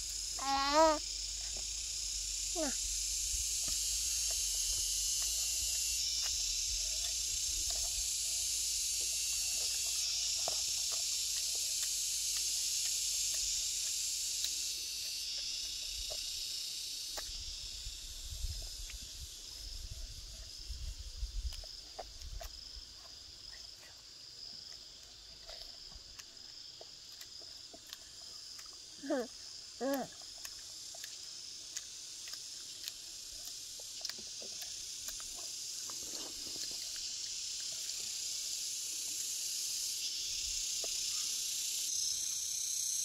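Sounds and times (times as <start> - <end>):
high-pitched insect chorus: 0.0 - 43.0
pulsing insect chirp: 0.0 - 43.0.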